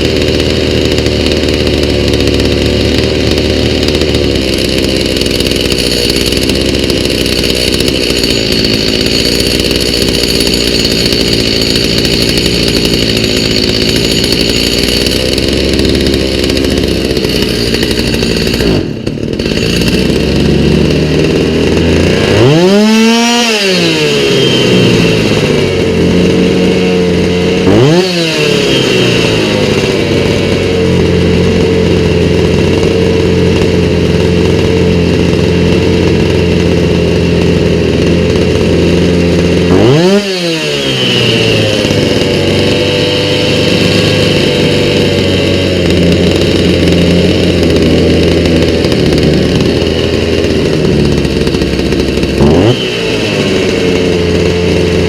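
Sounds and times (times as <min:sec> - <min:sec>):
chainsaw engine idling and revving: 0:00.0 - 0:55.0.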